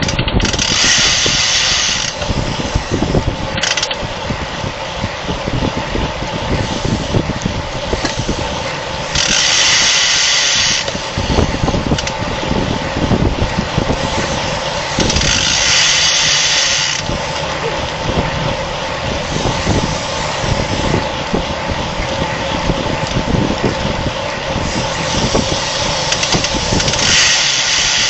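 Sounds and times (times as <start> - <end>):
bicycle rolling and drivetrain noise: 0.0 - 28.0
wind buffeting microphone: 0.0 - 28.0.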